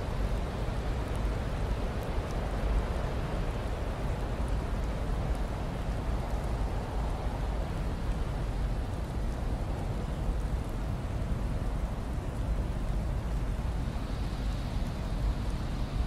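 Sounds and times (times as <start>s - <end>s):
snowstorm wind rushing: 0.0s - 16.0s
faint ticks: 0.2s - 16.0s.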